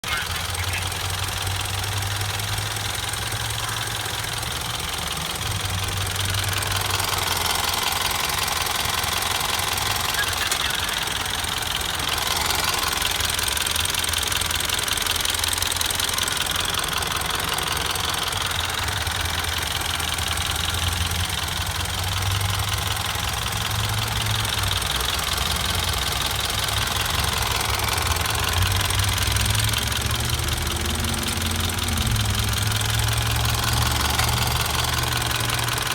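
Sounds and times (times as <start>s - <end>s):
car engine idling: 0.0s - 35.9s
fuel injectors ticking: 0.0s - 35.9s.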